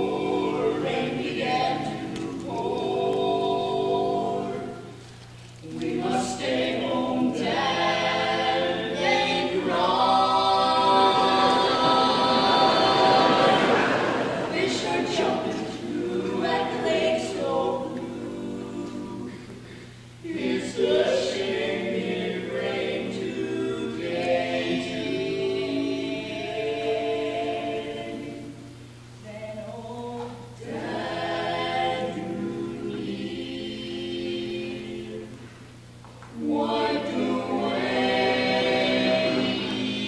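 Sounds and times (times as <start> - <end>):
a cappella harmony singing: 0.0 - 40.0.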